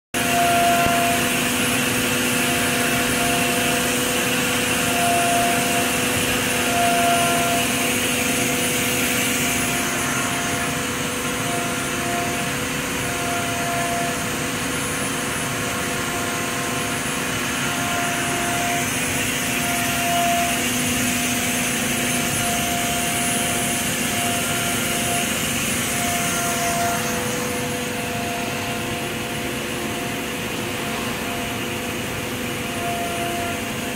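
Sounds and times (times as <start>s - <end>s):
turbine spindle spinning: 0.1s - 33.9s.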